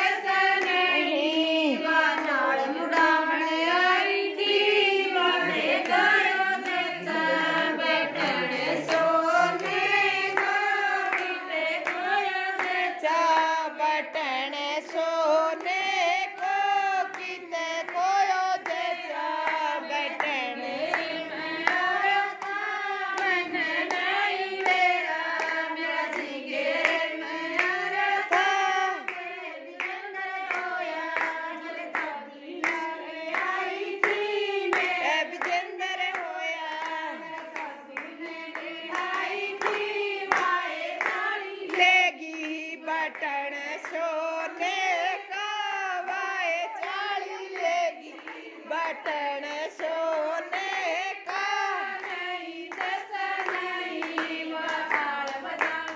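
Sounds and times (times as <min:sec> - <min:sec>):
rhythmic hand clapping: 0:00.0 - 0:55.9
women singing folk song in unison: 0:00.0 - 0:55.9.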